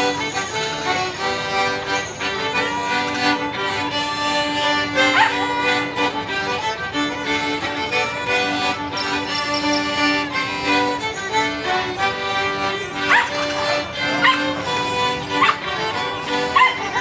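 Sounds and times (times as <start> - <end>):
fiddles and squeezebox dance tune: 0.0 - 17.0.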